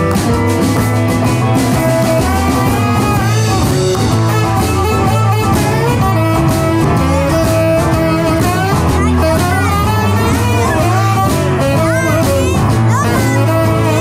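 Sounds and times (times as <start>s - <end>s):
rock and roll band playing live: 0.0s - 14.0s.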